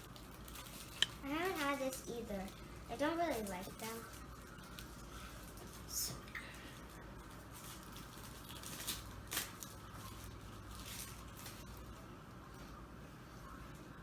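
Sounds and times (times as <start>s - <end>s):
plastic crinkling and peeling: 0.0s - 12.8s
low room hum: 0.0s - 14.0s.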